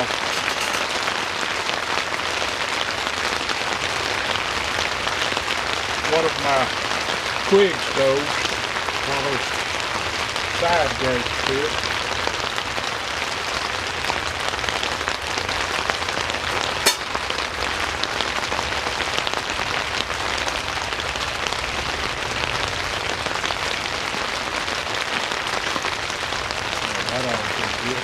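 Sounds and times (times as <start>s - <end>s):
rain on a tent canopy: 0.0s - 28.0s.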